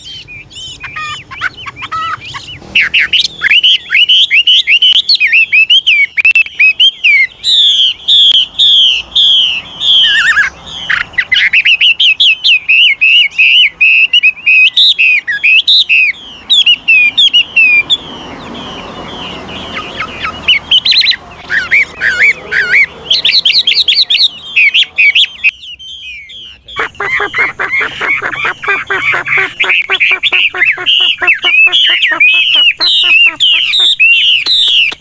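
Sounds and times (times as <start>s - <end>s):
songbird whistling song: 0.0s - 35.0s.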